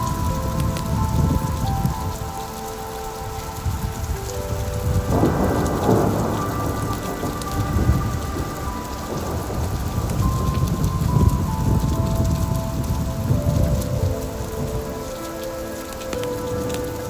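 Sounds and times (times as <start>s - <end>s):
rolling thunder rumble: 0.0s - 17.0s
steady rain: 0.0s - 17.0s.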